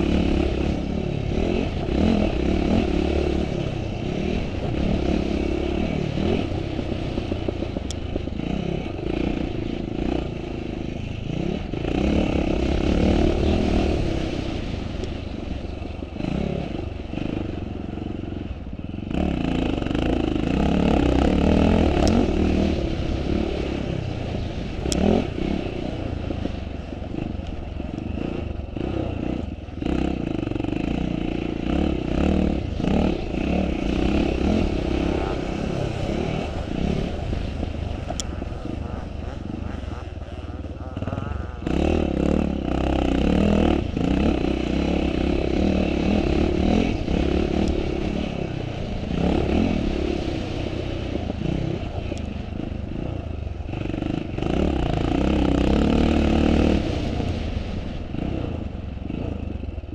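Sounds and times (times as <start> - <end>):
motocross motorcycle engine revving: 0.0 - 14.8, 18.9 - 59.6.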